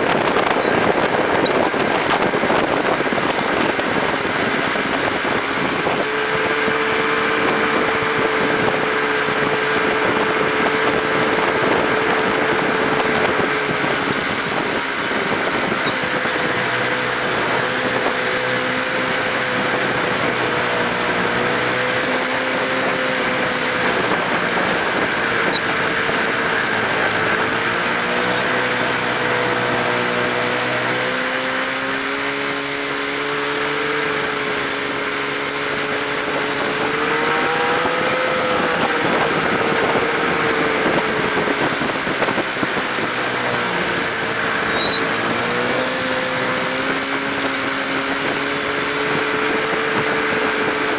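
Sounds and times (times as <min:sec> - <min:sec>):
constant rushing noise: 0:00.0 - 0:50.9
snowmobile engine running: 0:00.0 - 0:50.9.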